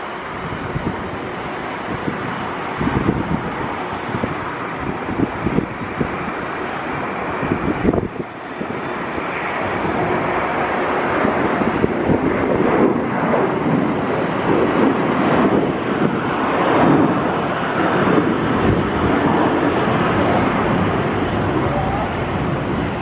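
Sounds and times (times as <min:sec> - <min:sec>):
jet engine noise: 0:00.0 - 0:23.0.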